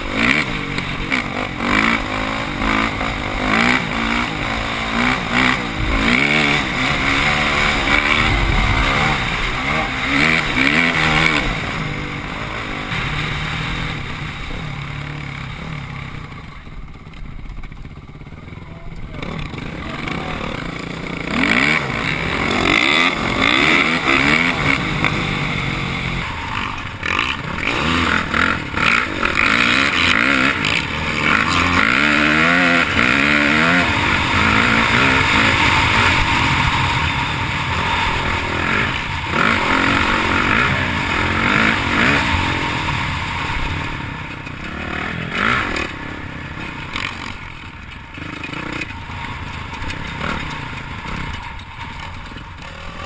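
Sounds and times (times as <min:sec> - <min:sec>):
loud rushing noise: 0:00.0 - 0:16.6, 0:19.4 - 0:53.0
dirt bike engine revving: 0:00.0 - 0:53.0.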